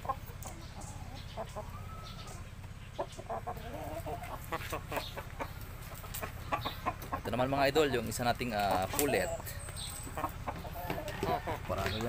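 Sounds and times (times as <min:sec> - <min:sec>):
chickens clucking: 0:00.0 - 0:12.0
steady low hum: 0:00.0 - 0:12.0.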